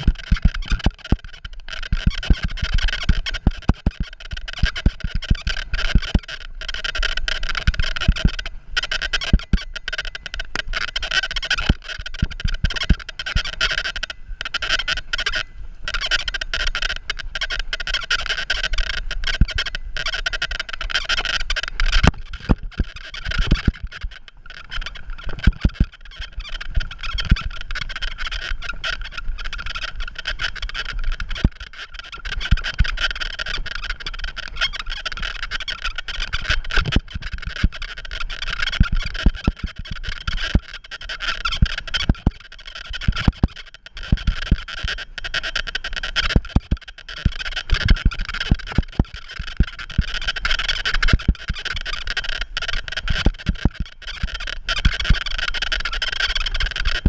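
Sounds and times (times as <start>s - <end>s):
frogs calling in chorus: 0.0s - 57.0s.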